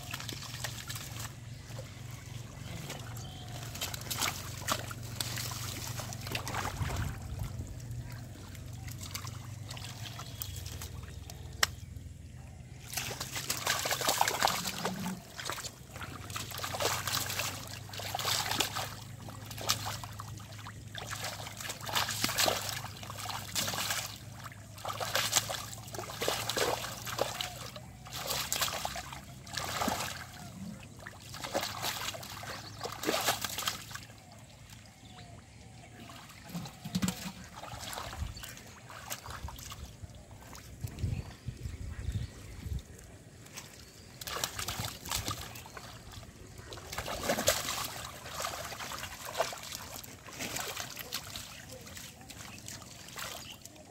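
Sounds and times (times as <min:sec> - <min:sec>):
hands sloshing through muddy water: 0:00.0 - 0:53.9.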